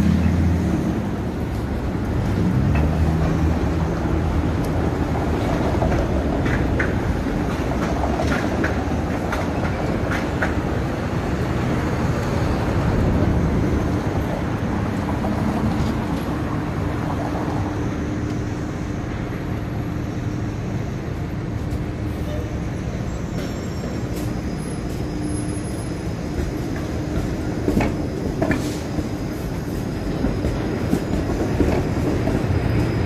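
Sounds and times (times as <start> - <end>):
streetcar running over rails: 0.0 - 33.0
traffic noise: 0.0 - 33.0.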